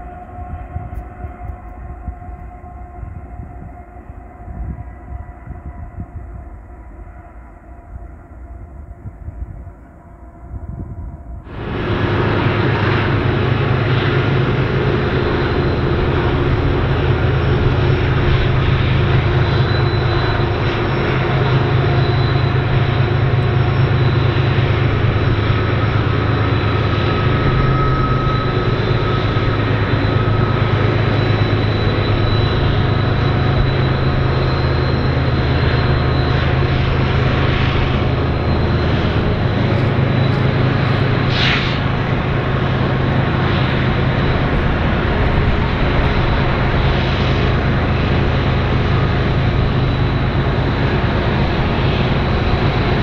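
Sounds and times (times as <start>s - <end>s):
high steady whine: 0.0s - 53.0s
locomotive engine drone: 0.0s - 53.0s.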